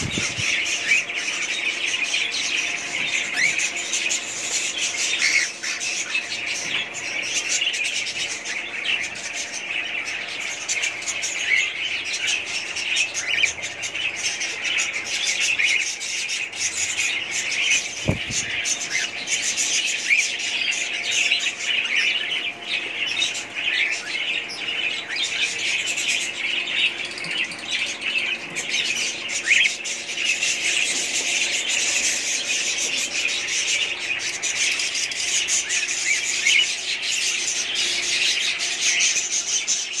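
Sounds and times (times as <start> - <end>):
cockatiels chirping and chattering: 0.0 - 40.0.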